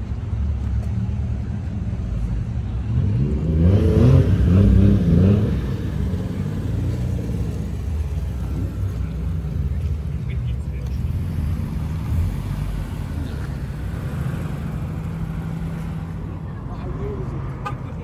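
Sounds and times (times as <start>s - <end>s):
car engine rumbling and revving: 0.0s - 18.0s.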